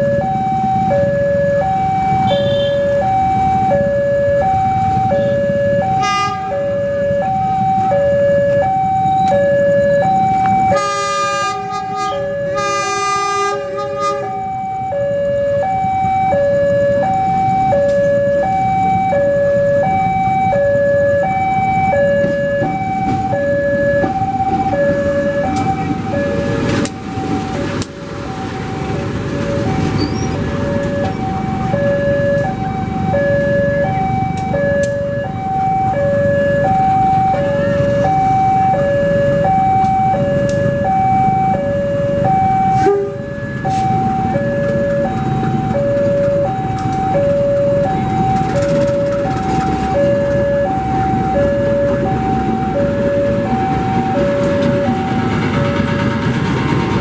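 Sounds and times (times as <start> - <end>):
diesel locomotive running: 0.0 - 57.0
level crossing two-tone alarm: 0.0 - 57.0.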